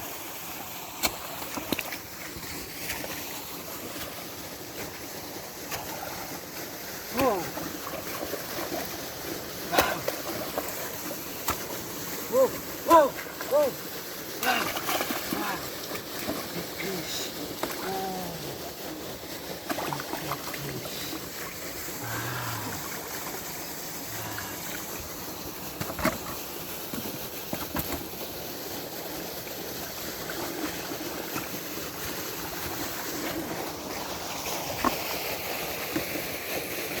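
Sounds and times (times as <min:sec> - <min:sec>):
water trickling: 0:00.0 - 0:36.9.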